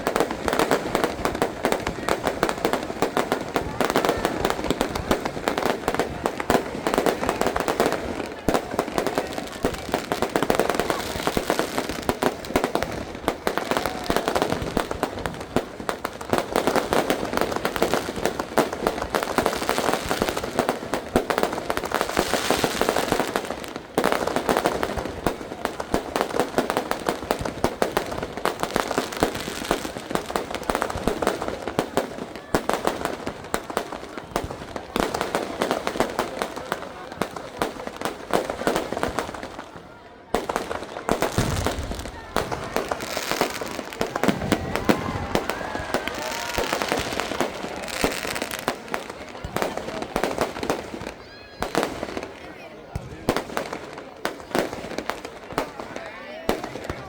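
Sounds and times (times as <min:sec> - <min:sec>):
fireworks cracks and bangs: 0:00.0 - 0:57.0.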